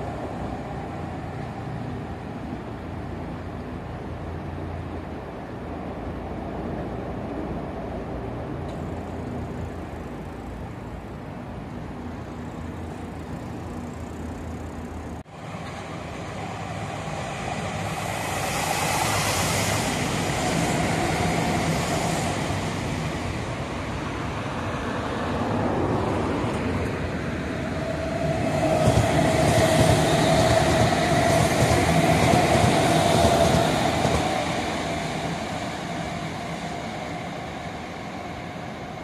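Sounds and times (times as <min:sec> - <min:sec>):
city and rail traffic rumble: 0:00.0 - 0:39.0
electric train passing: 0:00.0 - 0:39.0.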